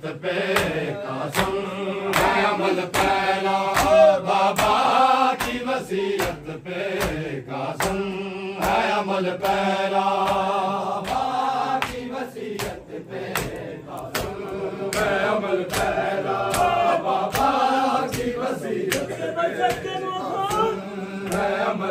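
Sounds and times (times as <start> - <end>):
men chanting together: 0.0 - 21.9
chest-beating slaps: 0.5 - 4.8, 5.4 - 9.6, 10.2 - 21.6.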